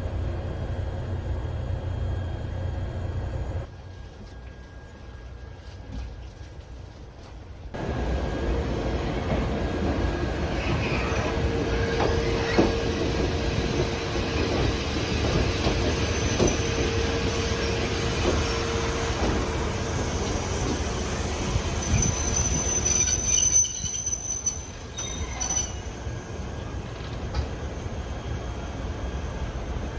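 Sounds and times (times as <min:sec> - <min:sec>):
train rumbling on rails: 0:00.0 - 0:29.9.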